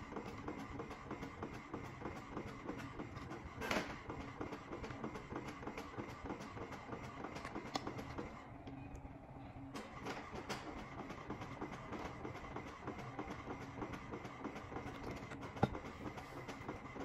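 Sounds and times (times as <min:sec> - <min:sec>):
inkjet printer clattering: 0:00.0 - 0:08.4, 0:09.8 - 0:17.0.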